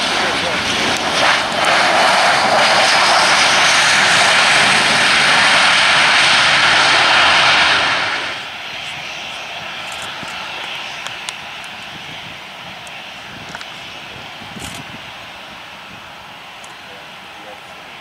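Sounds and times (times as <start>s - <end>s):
jet engines at high power: 0.0s - 18.0s.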